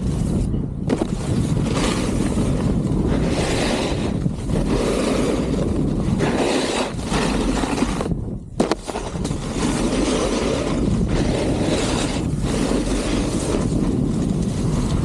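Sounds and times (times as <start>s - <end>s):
snowboard scraping packed snow: 0.0s - 15.0s
wind rushing on microphone: 0.0s - 15.0s.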